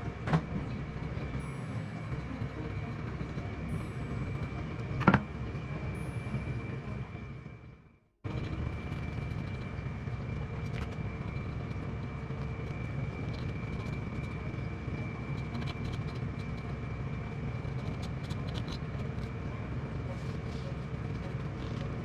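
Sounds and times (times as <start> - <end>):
mechanical drone with high whine: 0.0 - 22.0.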